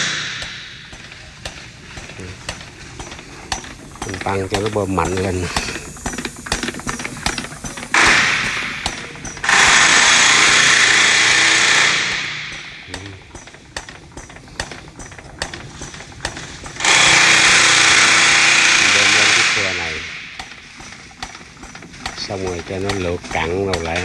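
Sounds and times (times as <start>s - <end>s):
pump clicking: 0.0s - 24.0s
pump rushing hiss: 0.0s - 24.0s.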